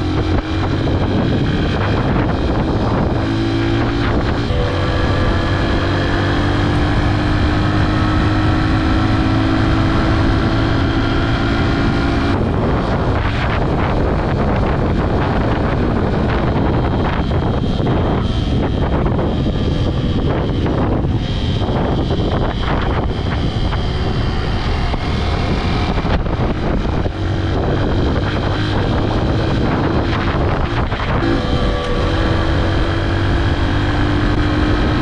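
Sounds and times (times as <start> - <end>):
motorcycle engine running: 0.0 - 35.0
wind on microphone: 0.0 - 35.0.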